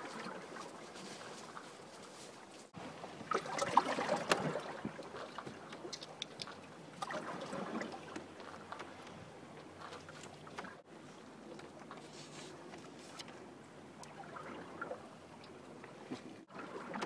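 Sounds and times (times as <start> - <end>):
light wind: 0.0 - 17.0
water lapping against hull: 0.0 - 17.0.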